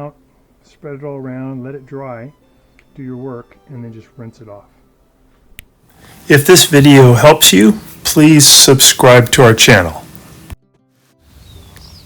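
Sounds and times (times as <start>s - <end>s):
faint background noise: 0.0s - 10.6s.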